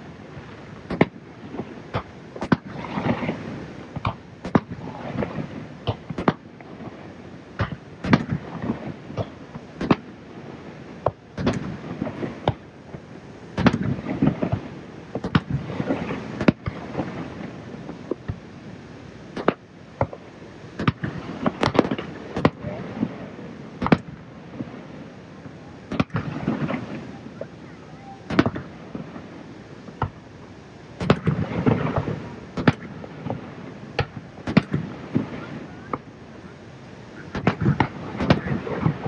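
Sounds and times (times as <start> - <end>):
firework bursts banging: 0.0 - 39.0
steady background hiss: 0.0 - 39.0.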